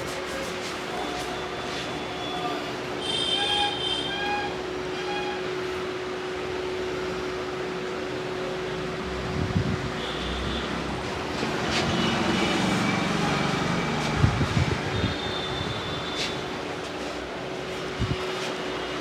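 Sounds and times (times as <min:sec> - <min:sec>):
street traffic hum: 0:00.0 - 0:19.0.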